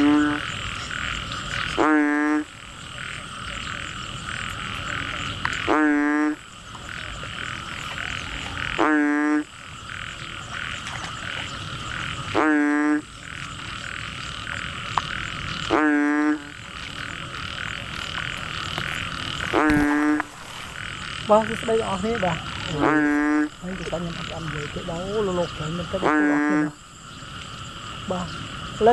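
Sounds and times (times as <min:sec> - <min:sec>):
frog croaking: 0:00.0 - 0:28.9.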